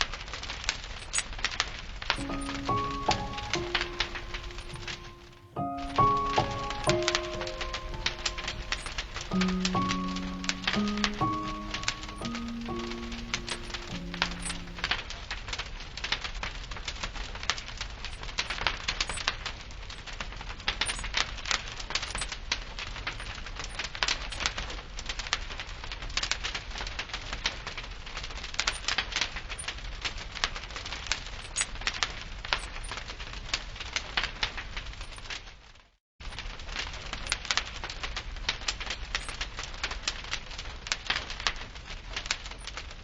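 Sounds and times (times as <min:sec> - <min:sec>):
wood fire crackling and popping: 0:00.0 - 0:35.6, 0:36.3 - 0:43.0.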